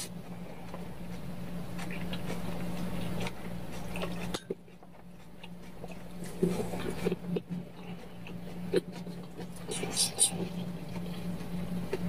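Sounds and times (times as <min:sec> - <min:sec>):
chewing: 0:00.0 - 0:12.0
steady low hum: 0:00.0 - 0:12.0.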